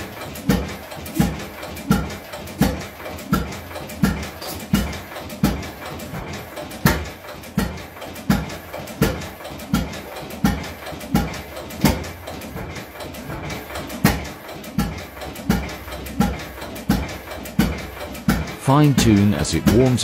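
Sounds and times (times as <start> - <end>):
hit-and-miss engine running: 0.0 - 20.0.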